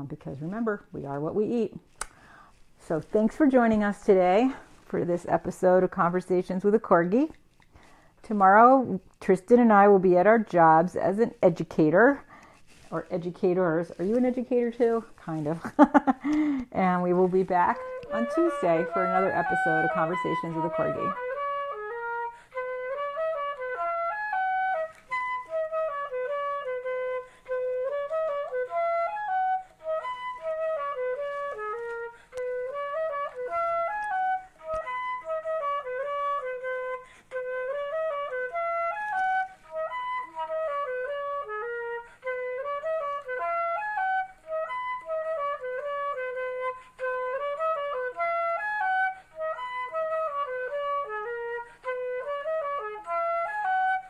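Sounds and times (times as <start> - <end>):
instrumental melody: 9.8 - 54.0.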